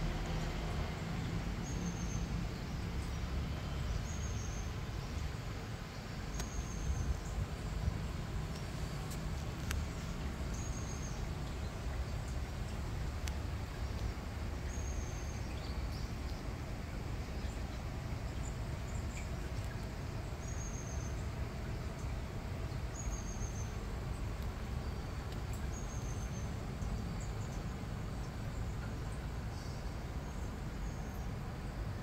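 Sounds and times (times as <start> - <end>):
low background rumble: 0.0 - 32.0.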